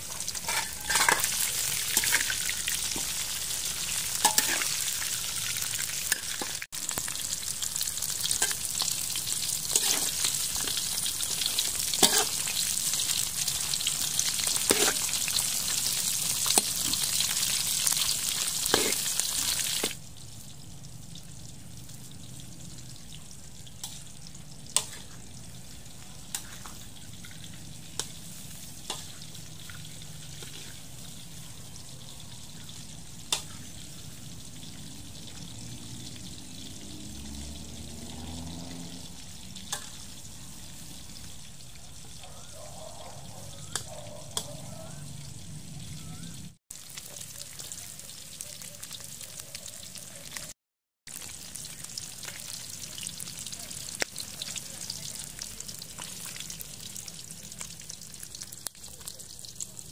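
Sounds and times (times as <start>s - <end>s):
food sizzling in a wok: 0.0s - 42.3s, 43.2s - 59.9s.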